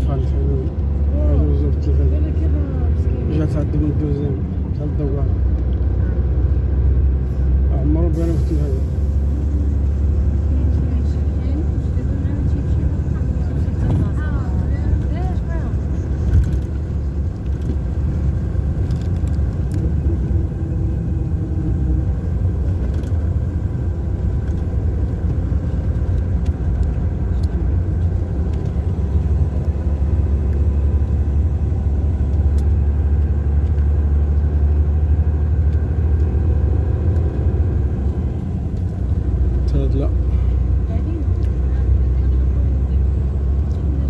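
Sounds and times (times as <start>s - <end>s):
car engine and tyre rumble: 0.0s - 44.0s.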